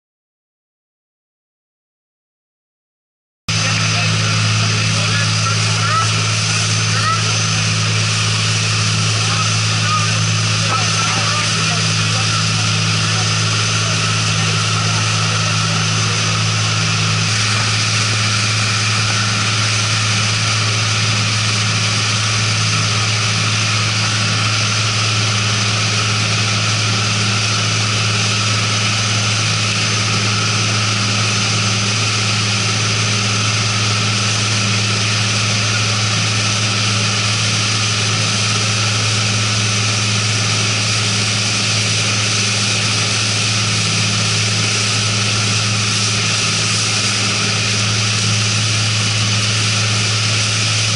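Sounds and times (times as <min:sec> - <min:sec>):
boat engines droning: 0:03.5 - 0:50.9.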